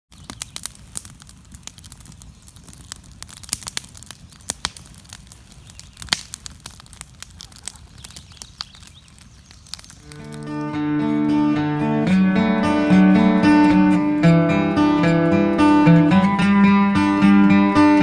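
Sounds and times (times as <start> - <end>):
campfire crackling and popping: 0.1 - 18.0.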